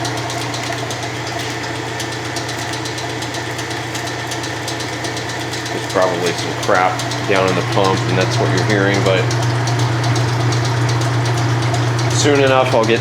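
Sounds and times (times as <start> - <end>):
fast light ticking and rattling: 0.0 - 13.0
washing machine motor hum: 0.0 - 13.0.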